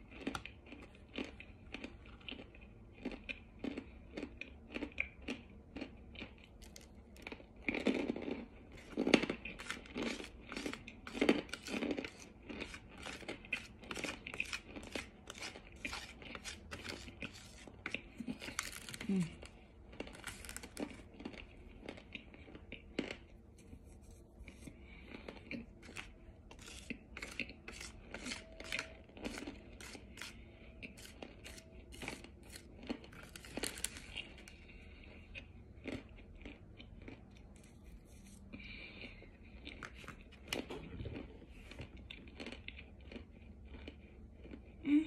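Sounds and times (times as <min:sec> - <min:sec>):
crunching chalky chunks: 0:00.0 - 0:43.9.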